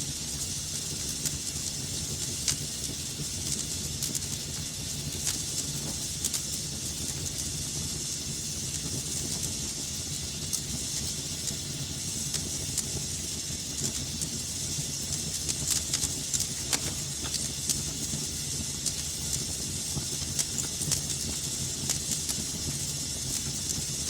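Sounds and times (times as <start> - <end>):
fire crackles and pops: 0.0 - 24.0
fire hissing and rumbling: 0.0 - 24.0.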